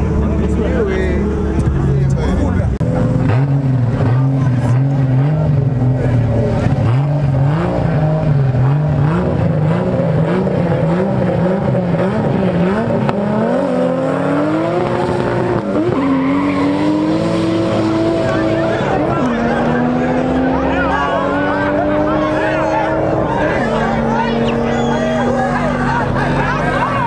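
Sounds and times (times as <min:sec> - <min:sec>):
car engines revving: 0:00.0 - 0:27.0
cars accelerating hard: 0:00.0 - 0:27.0.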